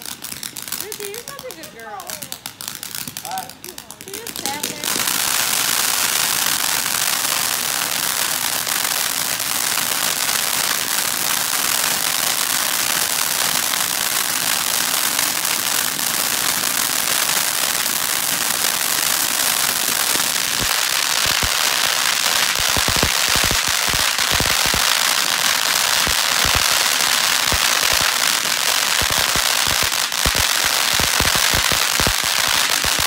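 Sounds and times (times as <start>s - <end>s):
firework pops and cracks: 0.0s - 33.0s
fountain firework crackling hiss: 0.0s - 33.0s.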